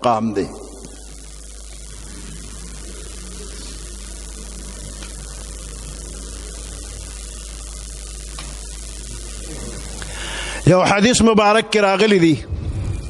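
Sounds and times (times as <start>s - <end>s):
even hiss: 0.0s - 13.0s
low electrical mains hum: 0.0s - 13.0s.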